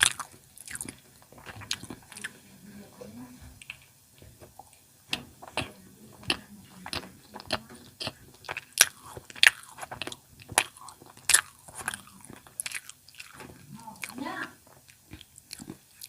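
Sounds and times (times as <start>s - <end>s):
chewing crunchy snack: 0.0s - 2.4s, 3.6s - 16.0s.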